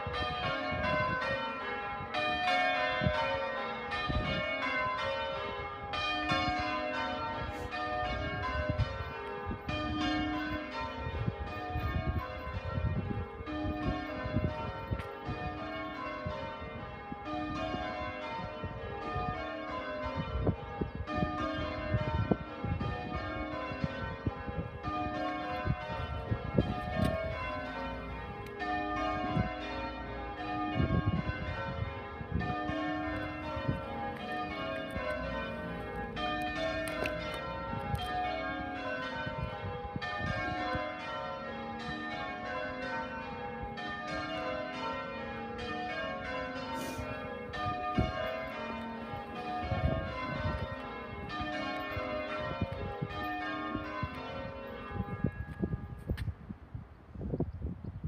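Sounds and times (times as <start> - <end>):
church bells ringing: 0.0 - 56.2.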